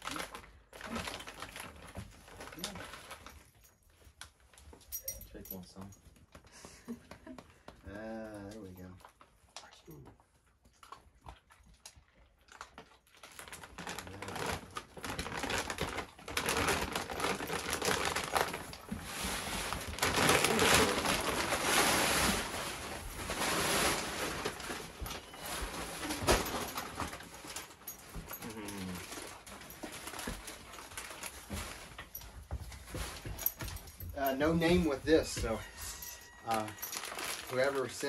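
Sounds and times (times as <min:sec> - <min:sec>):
plastic bag crinkling: 0:00.0 - 0:05.6, 0:12.6 - 0:38.0.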